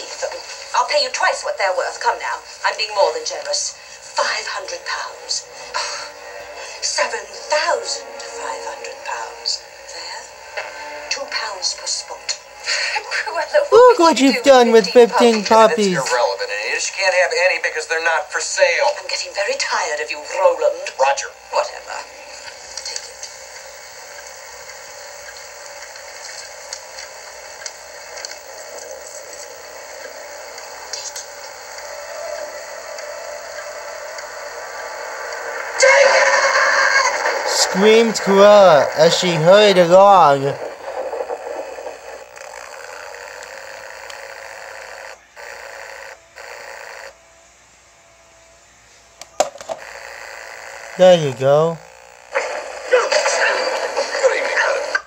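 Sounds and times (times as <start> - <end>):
television speaker hiss: 0.0 - 55.0
faint hum: 0.1 - 16.6, 17.8 - 55.0.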